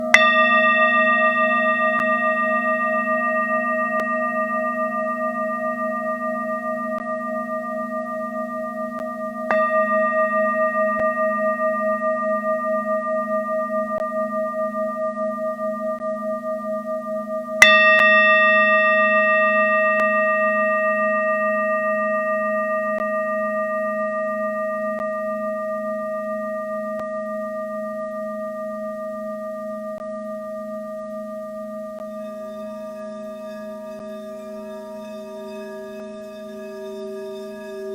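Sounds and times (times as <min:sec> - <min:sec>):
singing bowls ringing: 0:00.0 - 0:37.9.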